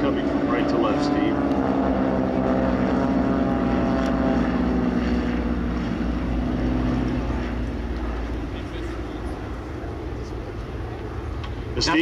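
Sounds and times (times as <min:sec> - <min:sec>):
propeller planes flying past: 0:00.0 - 0:12.0.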